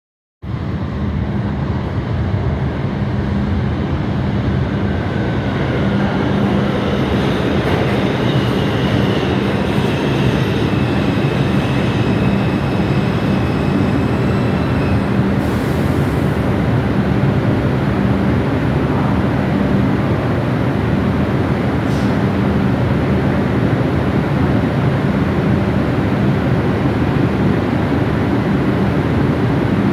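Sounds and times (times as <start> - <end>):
subway train rumbling: 0.4 - 29.9.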